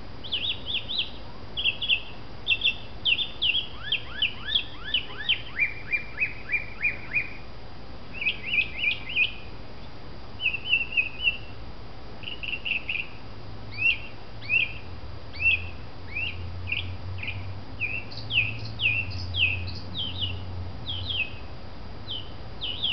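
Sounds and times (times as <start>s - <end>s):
mockingbird singing: 0.2s - 7.4s, 8.1s - 11.6s, 12.2s - 22.9s.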